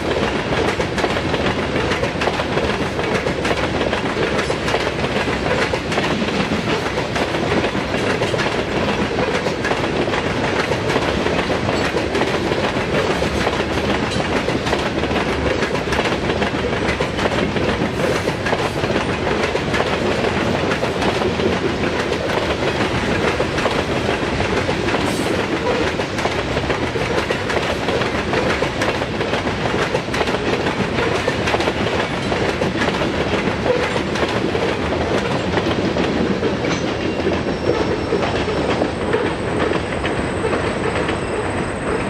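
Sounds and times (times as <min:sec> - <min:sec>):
freight train rumbling past: 0:00.0 - 0:42.0
wheels clacking on rail: 0:00.0 - 0:42.0.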